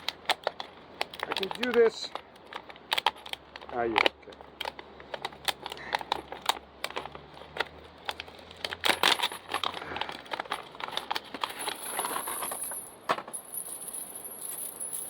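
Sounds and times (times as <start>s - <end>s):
clicks taps and rattles of small objects: 0.0s - 13.7s.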